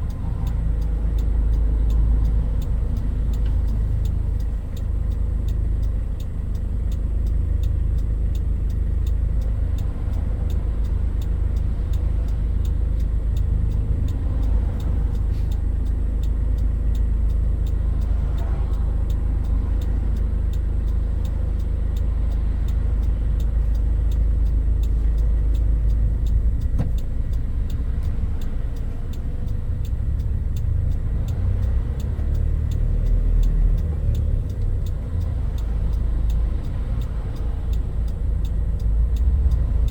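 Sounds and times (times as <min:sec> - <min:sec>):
engine and road rumble: 0:00.0 - 0:39.9
faint repeating ticking: 0:00.0 - 0:39.9.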